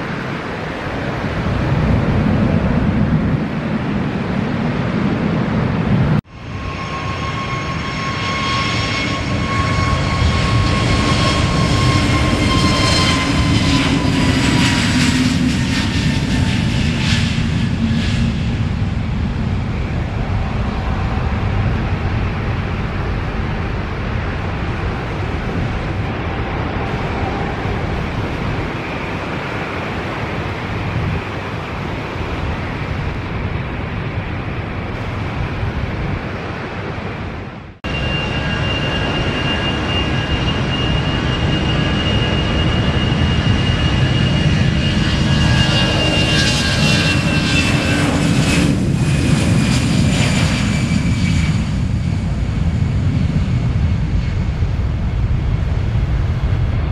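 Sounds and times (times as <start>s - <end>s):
high jet engine whine: 0.0s - 56.9s
jet engines rushing: 0.0s - 56.9s.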